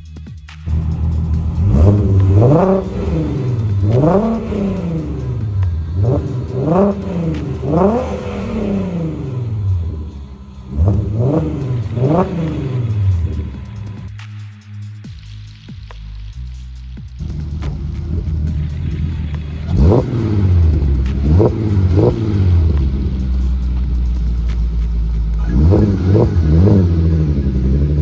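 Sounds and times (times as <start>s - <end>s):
car engine idling: 0.6s - 14.2s, 16.1s - 28.0s
car engine revving: 0.6s - 14.2s, 16.3s - 28.0s.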